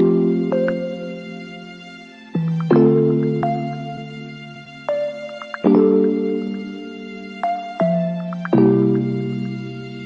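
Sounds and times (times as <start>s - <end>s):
soft keyboard chords: 0.0s - 10.0s.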